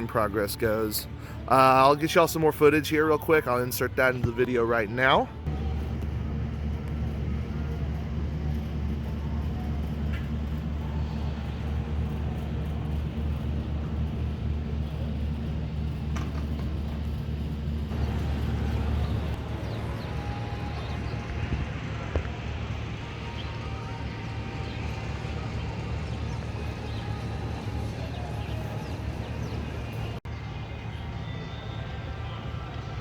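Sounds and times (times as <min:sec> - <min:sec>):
engine running at low speed: 0:05.3 - 0:33.0.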